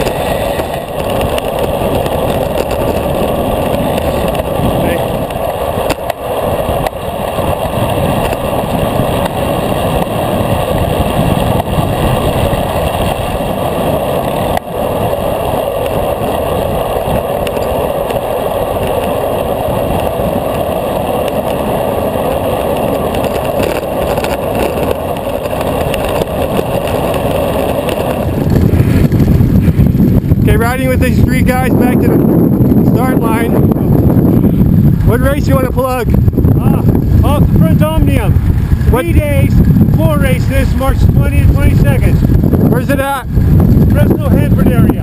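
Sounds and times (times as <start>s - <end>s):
wind and road noise: 0.0s - 45.0s
wind buffeting microphone: 0.0s - 45.0s.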